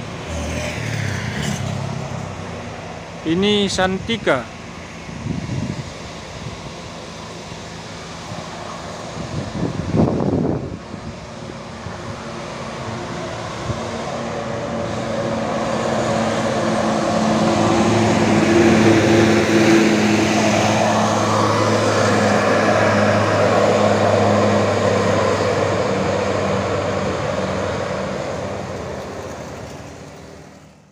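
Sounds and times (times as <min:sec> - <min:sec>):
bus engine passing: 0:00.0 - 0:30.9.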